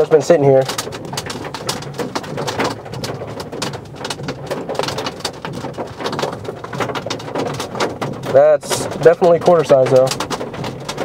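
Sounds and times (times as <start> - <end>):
hail pelting vehicle roof: 0.0 - 11.0.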